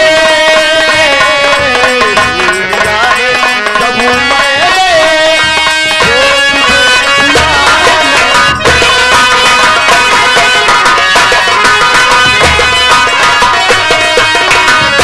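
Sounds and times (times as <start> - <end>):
keyboard accompaniment: 0.0 - 15.0
person singing into a microphone: 0.0 - 15.0
hand drum strokes: 0.9 - 15.0.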